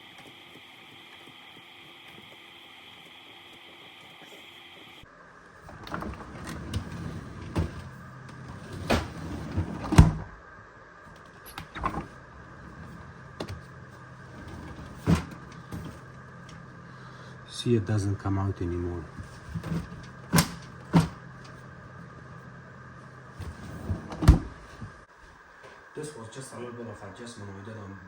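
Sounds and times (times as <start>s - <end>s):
refrigerator hum: 0.0s - 25.2s.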